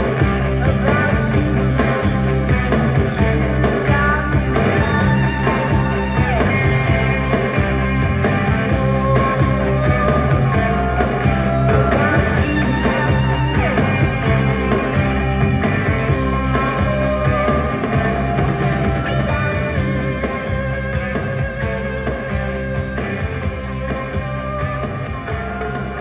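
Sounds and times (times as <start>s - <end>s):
rock song over speakers: 0.0s - 26.0s.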